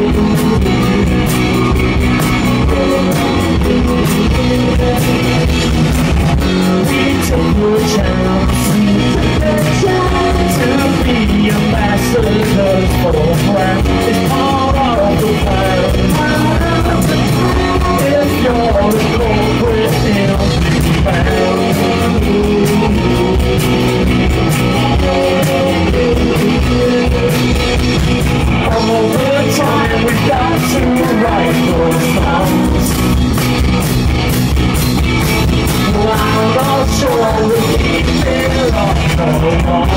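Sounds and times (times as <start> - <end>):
man singing: 0.0 - 33.2, 35.7 - 39.9
drum kit: 0.0 - 39.9
electric guitar: 0.0 - 39.9.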